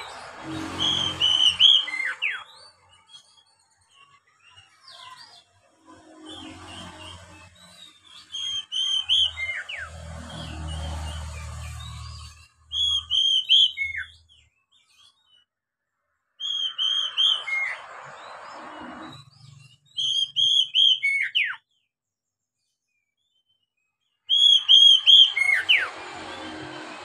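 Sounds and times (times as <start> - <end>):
bird singing whistled notes: 0.0 - 5.6, 6.3 - 15.5, 16.4 - 21.9, 22.6 - 26.8.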